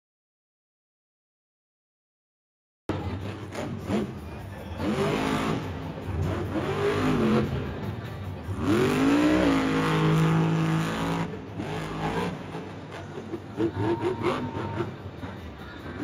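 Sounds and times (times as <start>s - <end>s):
monster truck engine revving: 2.9s - 16.0s.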